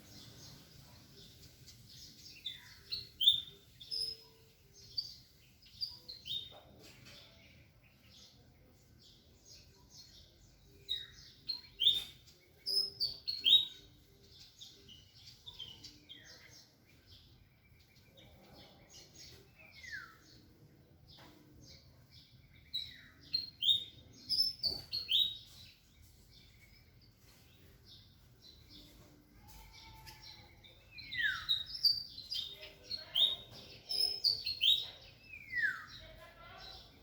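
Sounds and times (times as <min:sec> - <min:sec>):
small songbirds chirping: 0:00.0 - 0:37.0.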